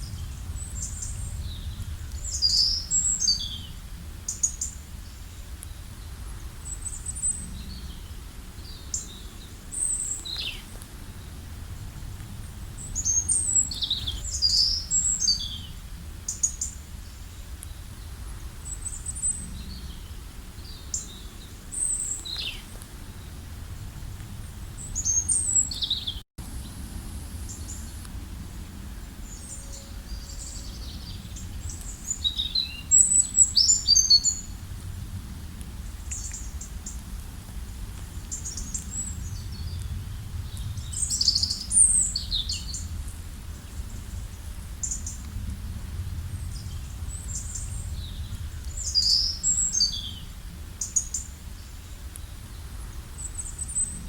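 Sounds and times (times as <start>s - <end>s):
small birds chirping and singing: 0.0s - 11.4s, 12.4s - 23.5s, 24.4s - 26.8s, 27.4s - 34.6s, 35.8s - 45.3s, 45.9s - 54.0s
steady low rumble: 0.0s - 54.0s.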